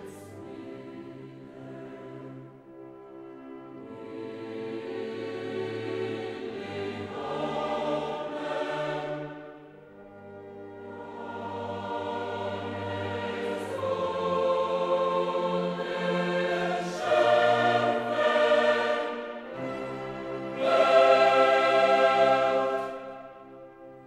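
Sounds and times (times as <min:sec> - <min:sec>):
slow choral music with orchestra: 0:00.0 - 0:24.0.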